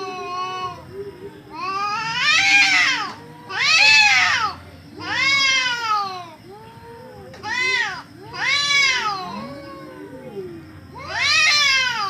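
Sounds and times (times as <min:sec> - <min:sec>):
cats moaning low: 0:00.0 - 0:12.0
cats yowling in a fight: 0:00.0 - 0:12.0.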